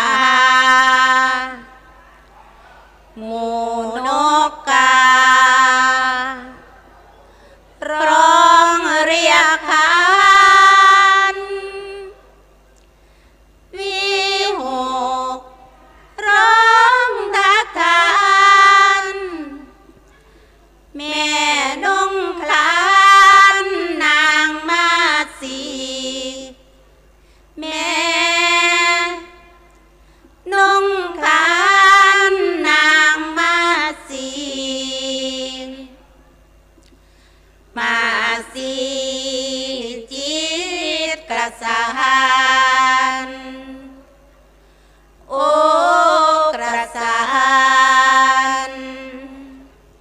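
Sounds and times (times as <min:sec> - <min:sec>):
woman chanting unaccompanied: 0:00.0 - 0:02.3, 0:03.1 - 0:06.9, 0:07.8 - 0:12.2, 0:13.7 - 0:19.9, 0:20.9 - 0:26.6, 0:27.6 - 0:29.6, 0:30.4 - 0:36.0, 0:37.7 - 0:44.1, 0:45.3 - 0:49.7.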